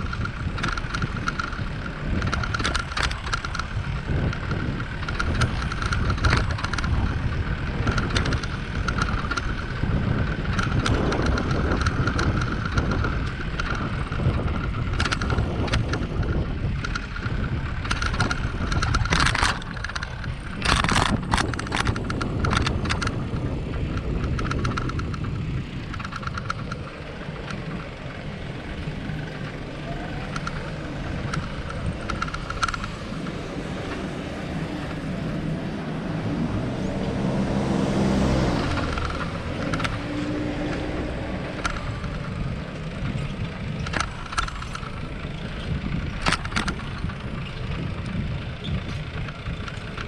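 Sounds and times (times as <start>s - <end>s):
bicycle rattles and clicks: 0.0s - 50.0s
wind and road rumble on microphone: 0.0s - 50.0s.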